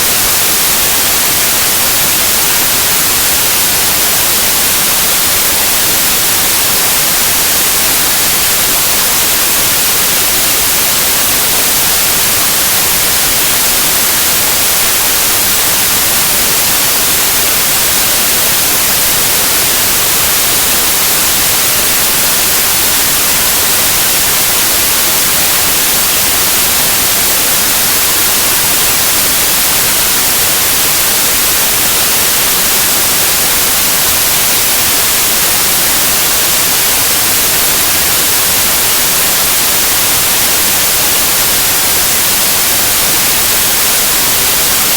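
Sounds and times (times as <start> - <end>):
white noise hiss: 0.0 - 44.9.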